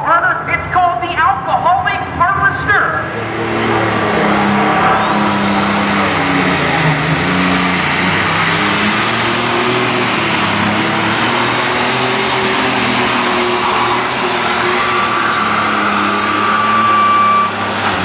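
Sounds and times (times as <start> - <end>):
high engine whine: 0.0 - 18.0
tractor engine at full power: 0.0 - 18.0.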